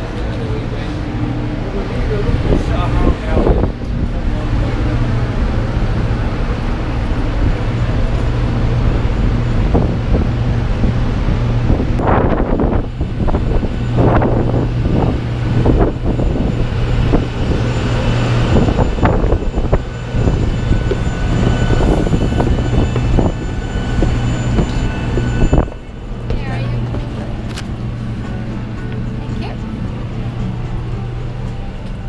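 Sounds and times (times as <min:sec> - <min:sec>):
faint high whine: 0:00.0 - 0:32.0
steady low hum: 0:00.0 - 0:32.0.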